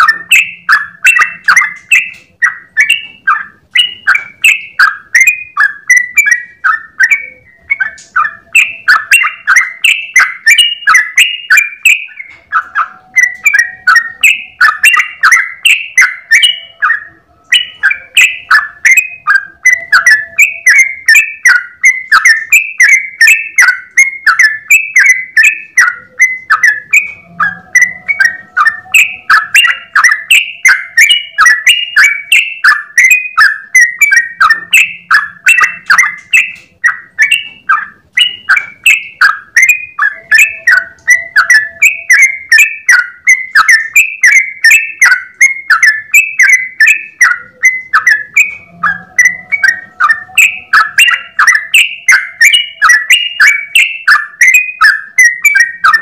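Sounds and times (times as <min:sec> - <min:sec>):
bulbul singing rapid notes: 0:00.0 - 0:56.0.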